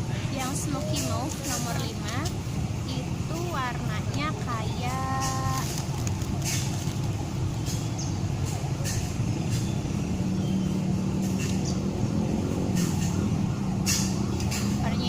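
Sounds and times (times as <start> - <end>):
road traffic rumble: 0.0 - 15.0
vehicle engine drone: 0.0 - 15.0.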